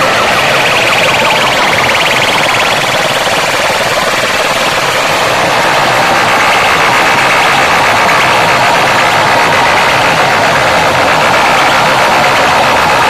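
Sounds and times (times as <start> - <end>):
distorted horn loudspeakers blaring: 0.0 - 13.0.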